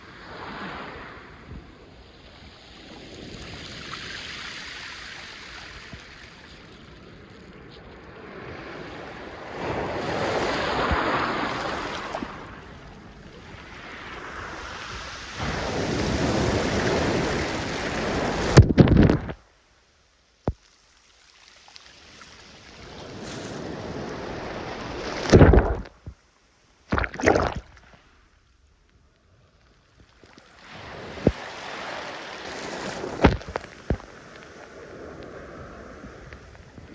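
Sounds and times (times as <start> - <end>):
surf washing onto shore: 0.0 - 19.4, 21.2 - 26.2, 30.2 - 36.9.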